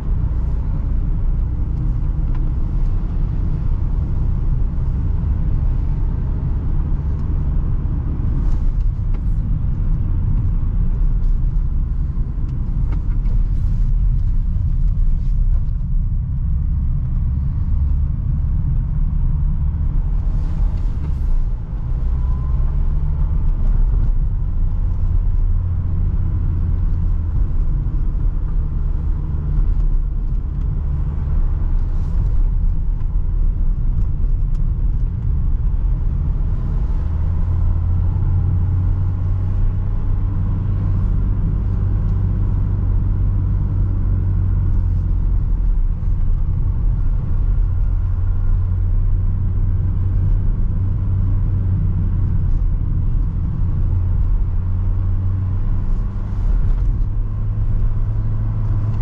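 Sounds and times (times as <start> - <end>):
van engine and road rumble: 0.0 - 59.0.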